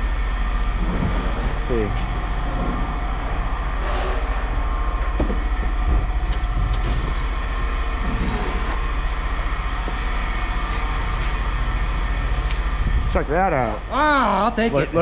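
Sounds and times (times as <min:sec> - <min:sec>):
pulsing mechanical rumble: 0:00.0 - 0:15.0.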